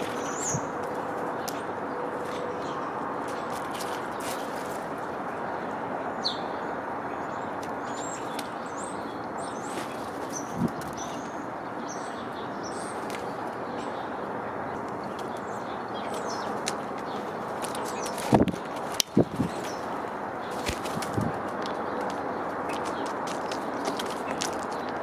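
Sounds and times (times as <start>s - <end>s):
birds chirping: 0.0s - 25.0s
steady background noise: 0.0s - 25.0s.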